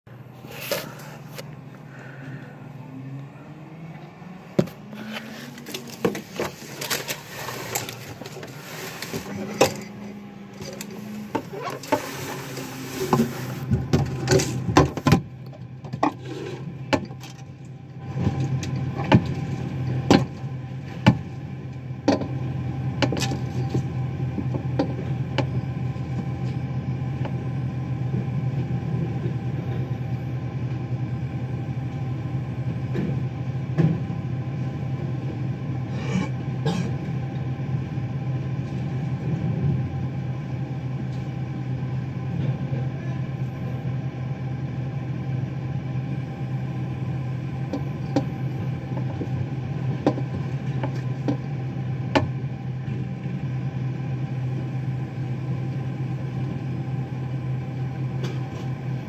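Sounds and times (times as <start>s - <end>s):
garbage truck diesel engine idling: 0.1s - 59.0s.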